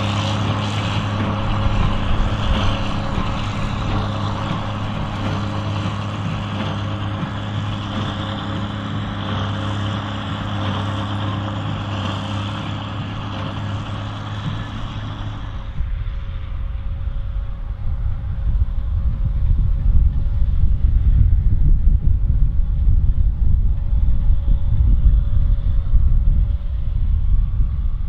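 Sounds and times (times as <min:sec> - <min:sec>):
baler machinery running: 0:00.0 - 0:28.0
steady hum: 0:00.0 - 0:28.0
tractor diesel engine running: 0:00.0 - 0:28.0.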